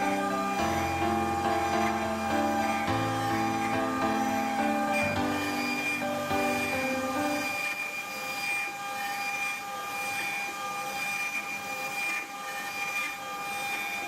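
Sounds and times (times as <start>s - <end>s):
router motor whine: 0.0s - 14.0s.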